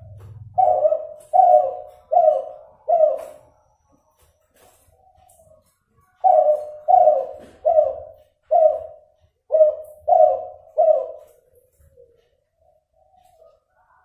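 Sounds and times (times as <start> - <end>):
dove cooing: 0.0 - 3.8, 4.6 - 12.2.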